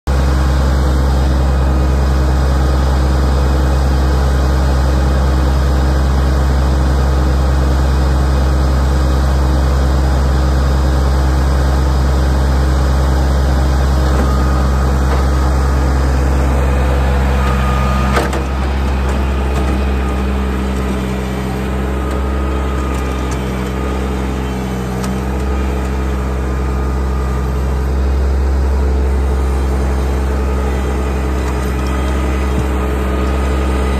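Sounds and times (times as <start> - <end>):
tractor diesel engine: 0.0 - 33.9.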